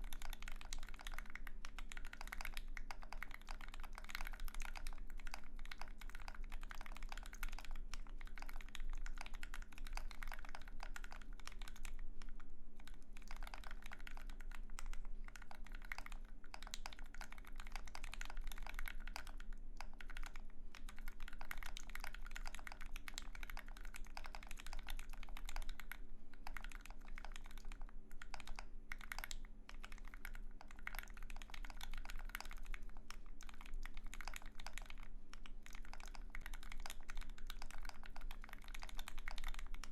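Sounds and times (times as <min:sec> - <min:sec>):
keyboard typing clacks: 0:00.0 - 0:12.0, 0:13.2 - 0:39.9
faint steady hum: 0:00.0 - 0:39.9.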